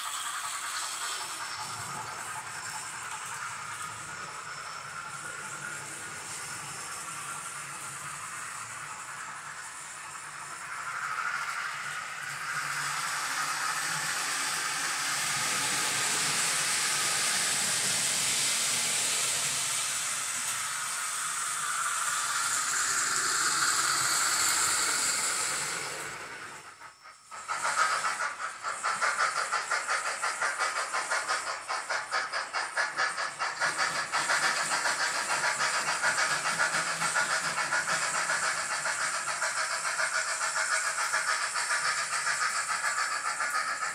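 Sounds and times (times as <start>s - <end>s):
steam hiss: 0.0s - 43.9s
steam locomotive chuffing: 0.0s - 43.9s.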